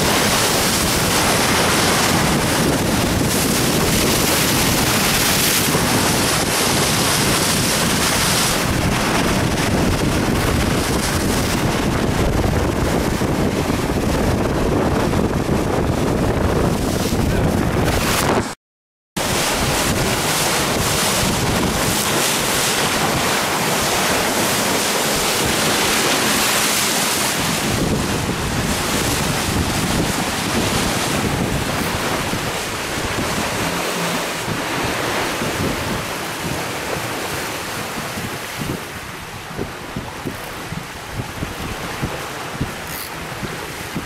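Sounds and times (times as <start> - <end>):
water rushing along boat hull: 0.0 - 18.6, 19.2 - 44.0
wind buffeting microphone: 0.0 - 18.6, 19.2 - 44.0.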